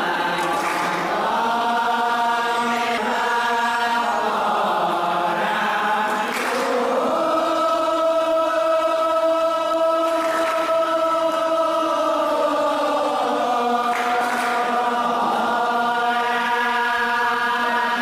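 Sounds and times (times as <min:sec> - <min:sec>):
men chanting in long held notes: 0:00.0 - 0:18.0.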